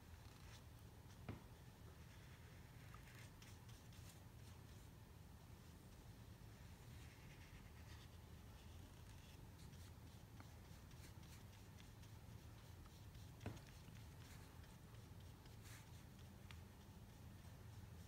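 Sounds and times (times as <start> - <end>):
low steady hum: 0.0 - 18.0
paintbrush strokes on paper: 0.0 - 18.0.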